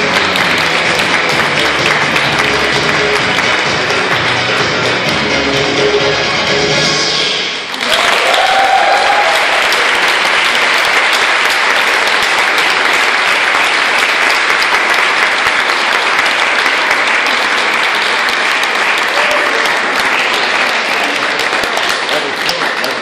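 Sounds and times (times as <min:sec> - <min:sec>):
audience applauding: 0:00.0 - 0:05.1, 0:07.6 - 0:23.0.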